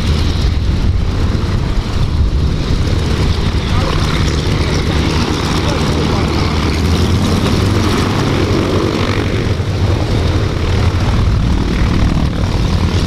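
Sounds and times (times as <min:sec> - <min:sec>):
propeller airplane engines droning: 0:00.0 - 0:13.0.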